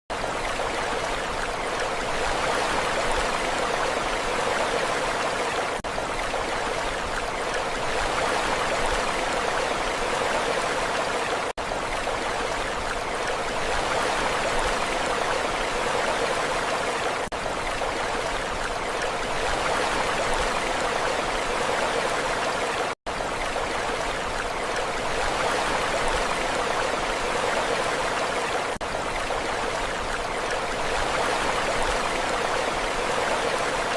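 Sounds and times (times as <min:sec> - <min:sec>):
sea water rushing: 0:00.1 - 0:33.9.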